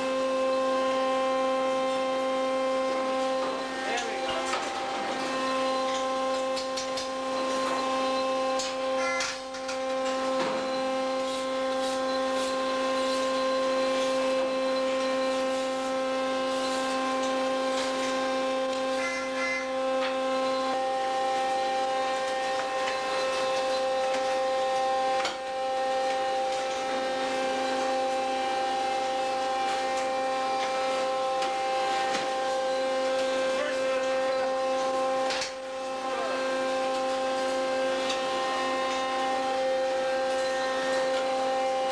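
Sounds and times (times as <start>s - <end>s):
machinery hum: 0.0s - 41.9s.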